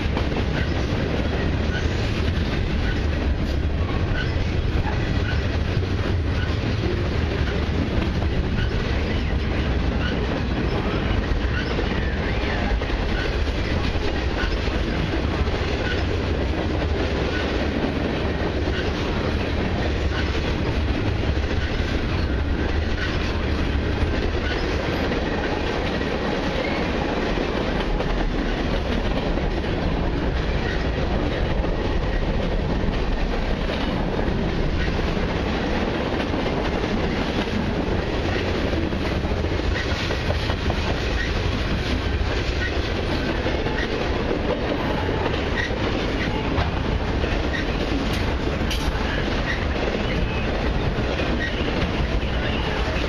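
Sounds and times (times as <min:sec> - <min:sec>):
steel wheels rumbling on track: 0:00.0 - 0:53.0.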